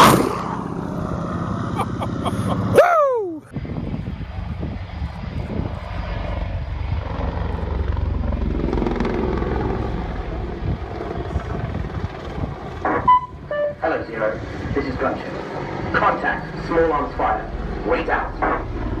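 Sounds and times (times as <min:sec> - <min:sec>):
helicopter rotor beat: 0:00.0 - 0:19.0
low engine rumble: 0:00.0 - 0:19.0.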